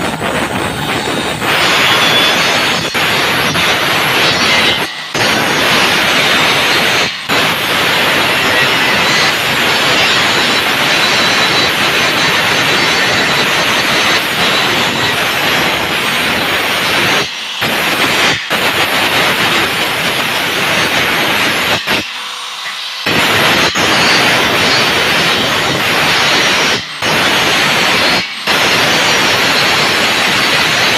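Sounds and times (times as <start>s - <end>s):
angle grinder grinding steel: 0.0s - 30.9s.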